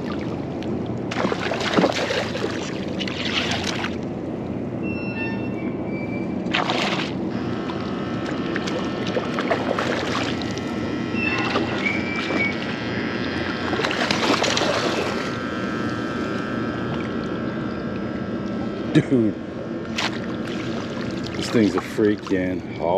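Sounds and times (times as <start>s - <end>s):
water sloshing and splashing: 0.0s - 4.2s, 6.4s - 18.8s, 19.6s - 22.7s.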